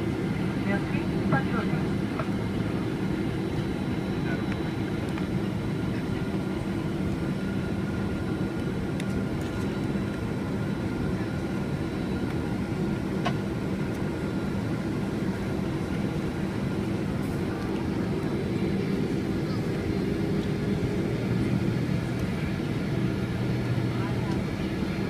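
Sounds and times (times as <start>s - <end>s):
jet engines rumbling in cabin: 0.0s - 25.0s.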